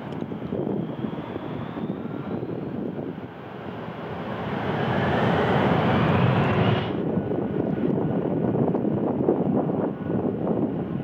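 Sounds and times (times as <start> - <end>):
jet engine rumble: 0.0 - 11.0
jet engine whine: 0.0 - 11.0.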